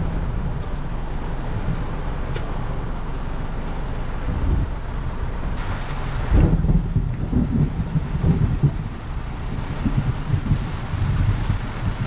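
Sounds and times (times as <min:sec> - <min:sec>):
deep rumbles: 0:00.0 - 0:12.0
heavy rain on car roof: 0:00.0 - 0:12.0.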